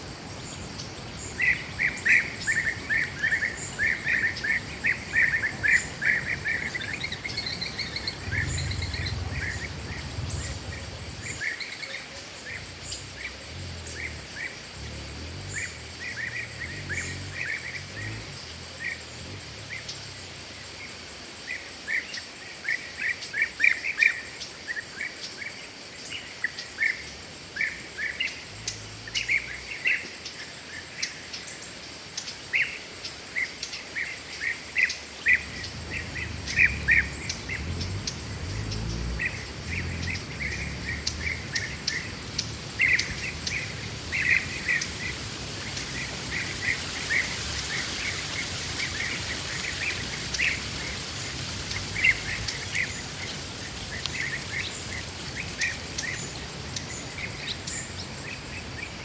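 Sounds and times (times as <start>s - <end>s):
steady high hiss: 0.0s - 59.0s
birds chirping: 0.3s - 59.0s.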